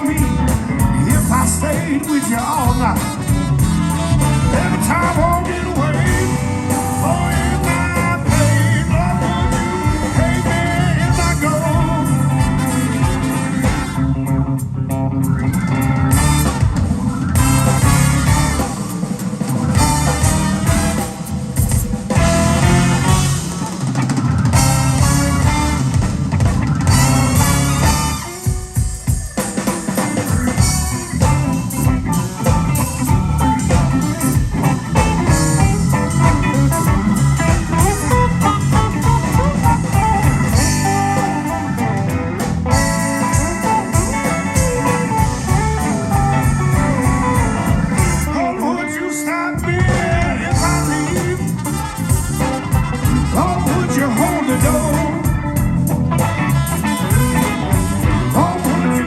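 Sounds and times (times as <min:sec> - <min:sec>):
drum kit: 0:00.0 - 0:49.0, 0:49.6 - 0:59.0
blues band playing: 0:00.0 - 0:59.0
electric guitar: 0:00.0 - 0:59.0.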